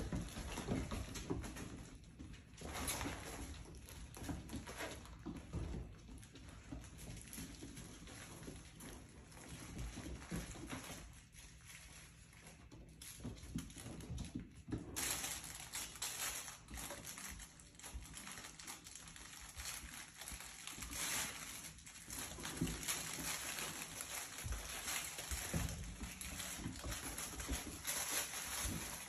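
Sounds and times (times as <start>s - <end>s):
paws scrabbling on hard floor: 0.0s - 29.0s
plush toys rustling: 0.0s - 29.0s.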